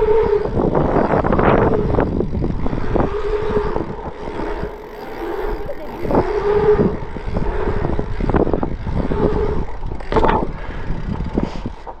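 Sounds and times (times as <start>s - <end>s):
bike tyre hum on asphalt: 0.0s - 12.0s
wind buffeting microphone: 0.0s - 12.0s.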